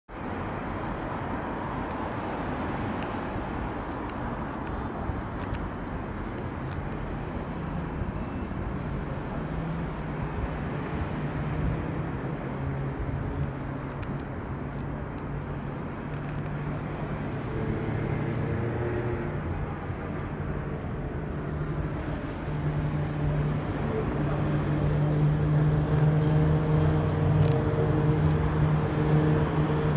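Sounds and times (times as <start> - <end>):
rushing background noise: 0.1 - 29.9.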